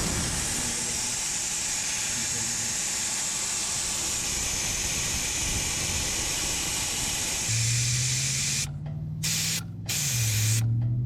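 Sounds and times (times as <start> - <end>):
air hissing out of tire: 0.0 - 10.7.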